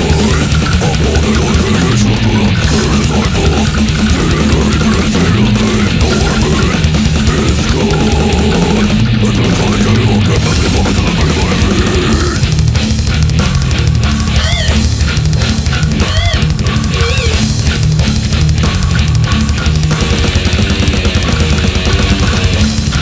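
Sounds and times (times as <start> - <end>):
distorted guitars and bass: 0.0 - 23.0
high squealing guitar notes: 0.0 - 23.0
rapid drumming: 0.0 - 23.0.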